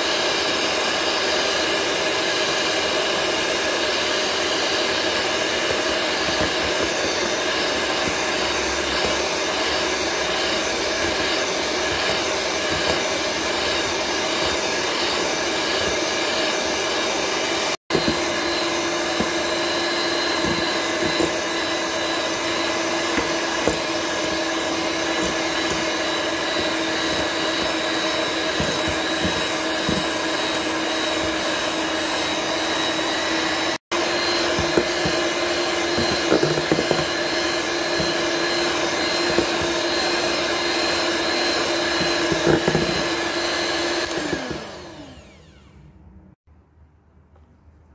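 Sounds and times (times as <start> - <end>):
electric hand mixer running: 0.0 - 45.9.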